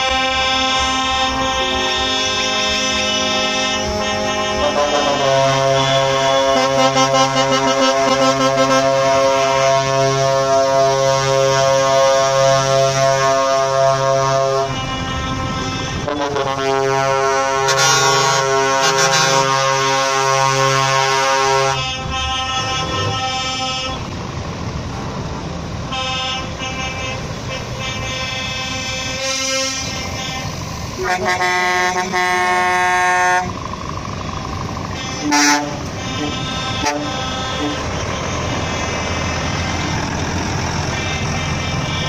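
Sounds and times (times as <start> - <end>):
truck air horns: 0.0 - 24.7, 25.8 - 42.0
truck engines running: 0.0 - 42.0.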